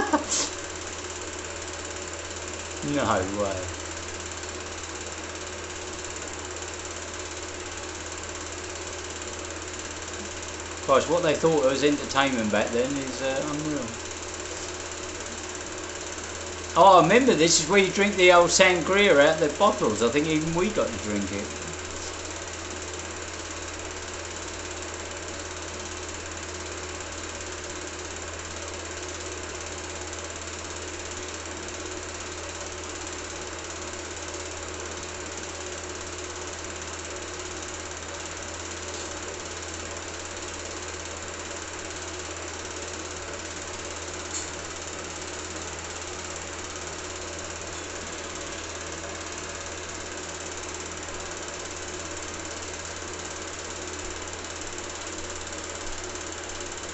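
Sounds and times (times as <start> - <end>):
film projector running: 0.0 - 56.9.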